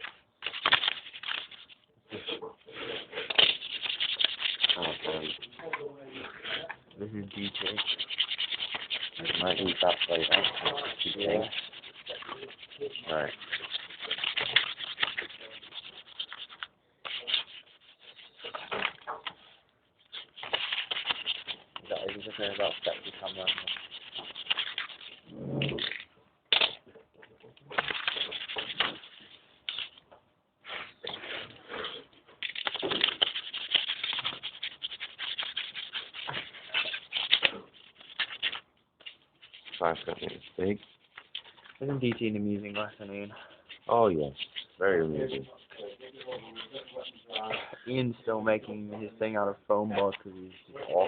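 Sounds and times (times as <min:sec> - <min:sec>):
sandpaper rubbing: 0:00.0 - 0:06.6, 0:07.2 - 0:26.0, 0:27.7 - 0:30.0, 0:32.4 - 0:51.0.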